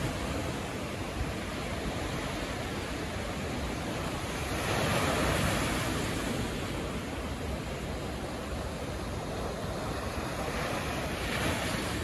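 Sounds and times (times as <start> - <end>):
sea waves breaking on a beach: 0.0 - 12.0.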